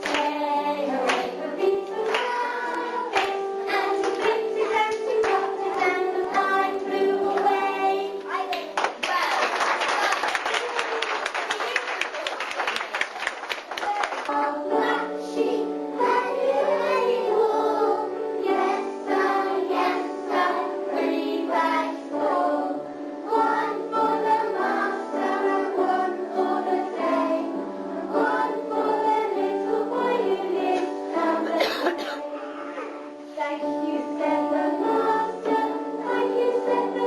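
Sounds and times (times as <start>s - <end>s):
children singing: 0.0s - 8.6s, 14.3s - 37.0s.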